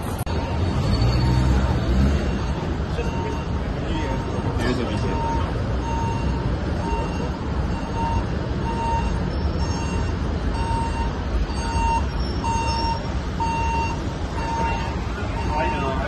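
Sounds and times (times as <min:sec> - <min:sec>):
reversing alarm beeps: 0:02.2 - 0:16.0.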